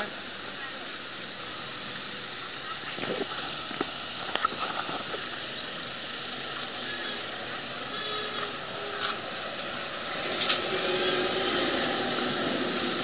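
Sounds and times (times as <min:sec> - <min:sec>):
city bus moving: 0:00.0 - 0:13.0
street traffic: 0:00.0 - 0:13.0.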